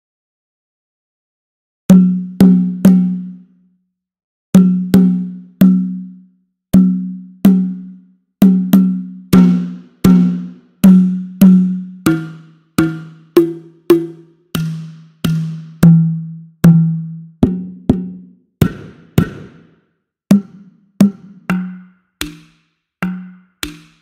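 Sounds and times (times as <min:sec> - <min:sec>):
clay hand drum strikes: 0:01.9 - 0:03.4, 0:04.6 - 0:06.1, 0:06.8 - 0:24.0.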